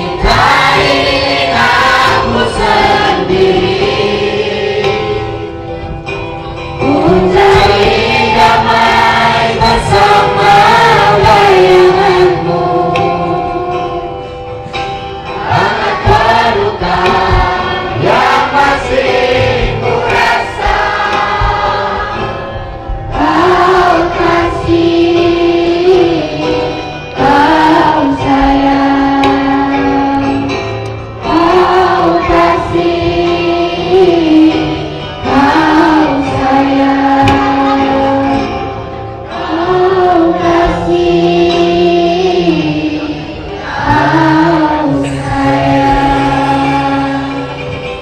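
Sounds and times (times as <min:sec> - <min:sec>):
group singing slow song: 0:00.0 - 0:48.0.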